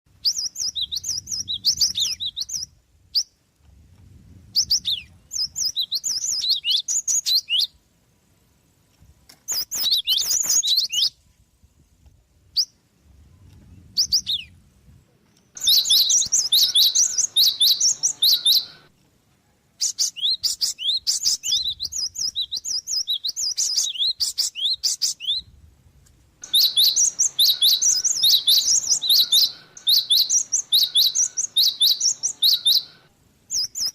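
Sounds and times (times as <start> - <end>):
songbird chirping and twittering: 0.1 - 3.4, 4.5 - 7.8, 9.4 - 11.2, 12.5 - 25.6, 26.4 - 33.9.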